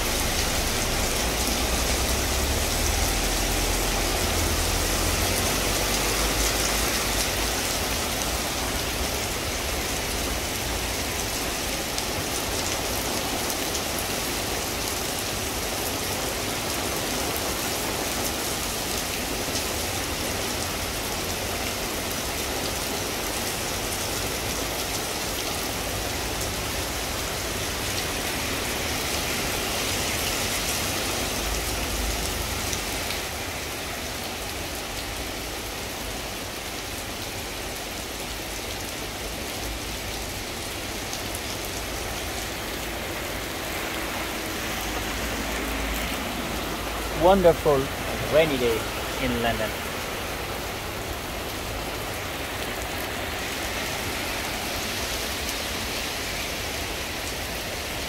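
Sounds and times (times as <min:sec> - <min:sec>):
heavy rain pouring on street: 0:00.0 - 0:58.0
van tyres swishing on wet road: 0:00.0 - 0:58.0.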